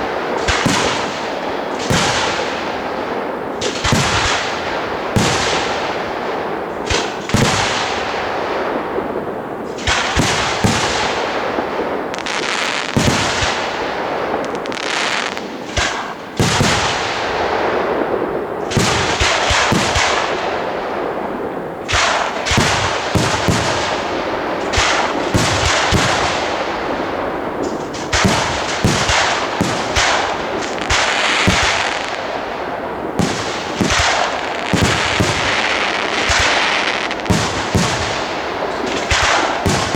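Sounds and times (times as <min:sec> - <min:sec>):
firework bangs: 0:00.0 - 0:39.9
firework crackle: 0:00.0 - 0:39.9.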